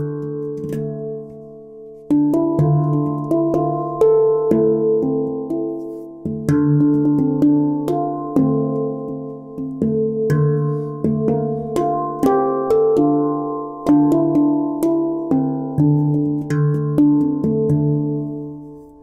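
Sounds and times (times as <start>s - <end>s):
handpan played by hand: 0.0s - 19.0s.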